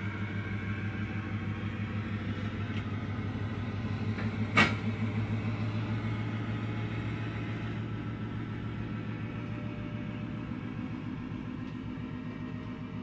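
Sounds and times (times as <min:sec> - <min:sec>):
engine rumble pulsing: 0:00.0 - 0:13.0.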